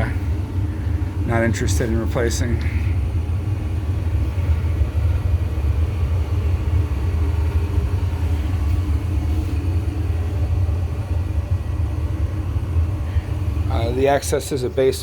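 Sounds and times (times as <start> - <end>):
faint hum: 0.0 - 15.0
furnace low rumble: 0.0 - 15.0.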